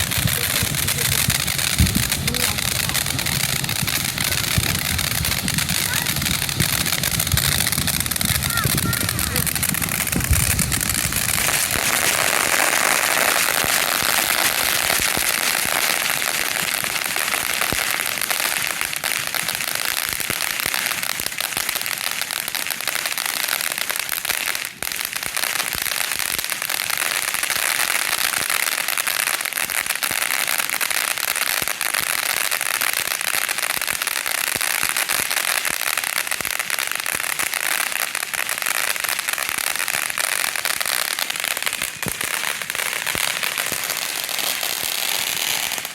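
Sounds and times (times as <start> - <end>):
fireworks crackling: 0.0 - 45.9.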